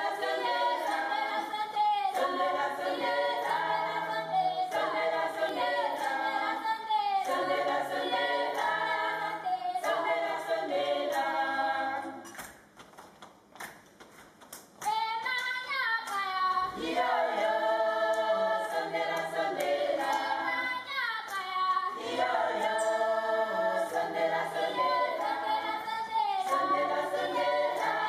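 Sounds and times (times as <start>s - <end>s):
choir singing a cappella: 0.0s - 12.4s, 15.6s - 28.0s.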